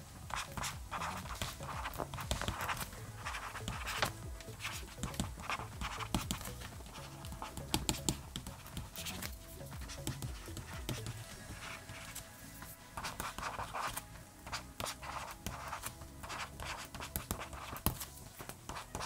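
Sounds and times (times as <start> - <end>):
quiet background music: 0.0 - 19.0
stylus scratching on screen: 0.3 - 19.0.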